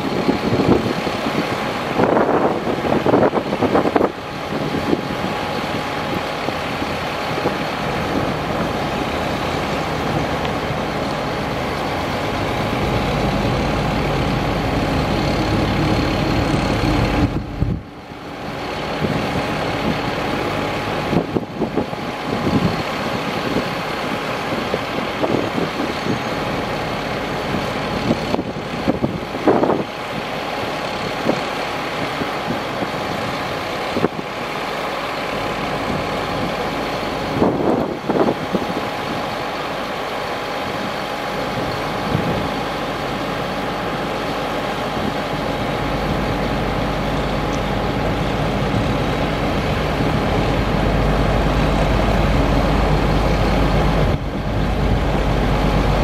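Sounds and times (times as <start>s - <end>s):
thin steady whine: 0.0s - 56.0s
truck engine running: 0.0s - 56.0s.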